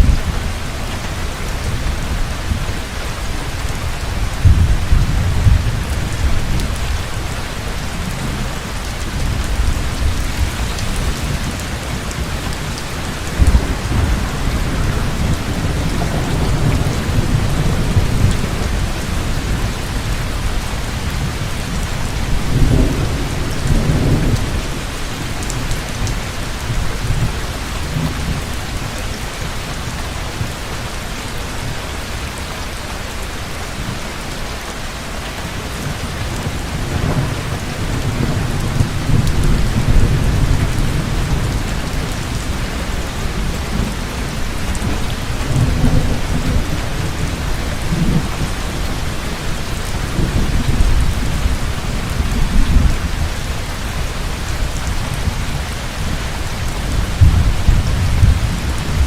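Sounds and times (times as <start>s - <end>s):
heavy rain: 0.0s - 59.0s
thunder rumbling: 3.4s - 28.6s, 35.8s - 59.0s.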